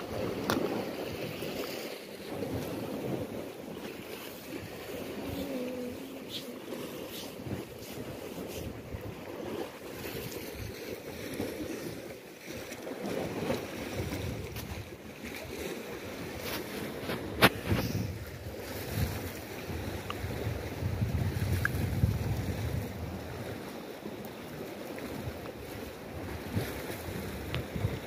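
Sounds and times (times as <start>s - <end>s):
wind buffeting microphone: 0.0s - 12.1s, 13.0s - 23.7s, 25.0s - 28.0s
sea waves washing against rocks: 0.0s - 28.0s.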